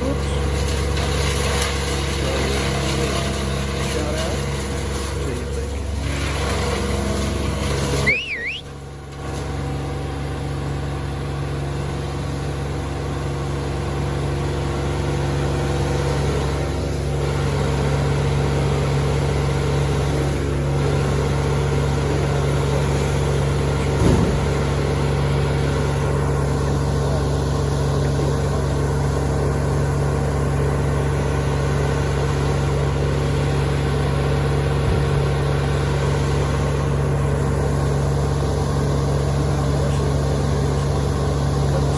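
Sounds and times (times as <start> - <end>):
large engine running steadily: 0.0 - 41.9.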